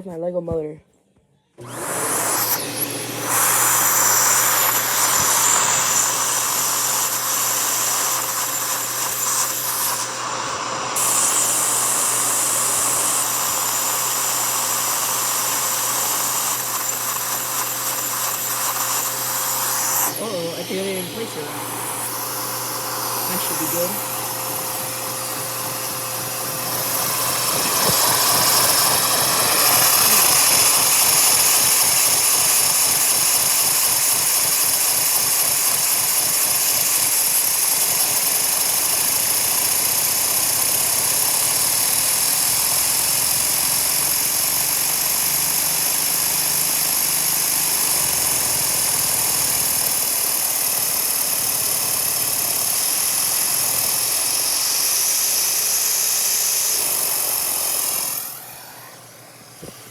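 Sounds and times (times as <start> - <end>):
toy motor whirring: 1.6 - 59.9.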